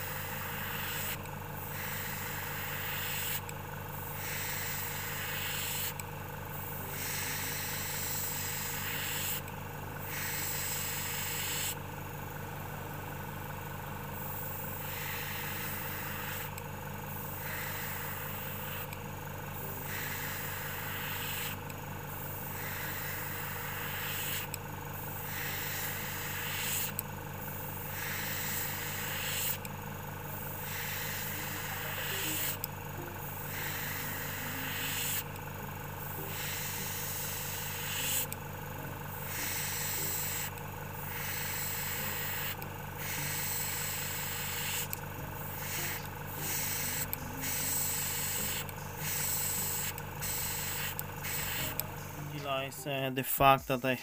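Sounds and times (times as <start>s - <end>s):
airbrush spraying hiss: 0.0s - 9.4s, 10.0s - 11.8s, 14.2s - 19.0s, 19.6s - 29.7s, 30.3s - 35.4s, 36.0s - 38.4s, 39.1s - 52.2s
air compressor running: 0.0s - 54.0s.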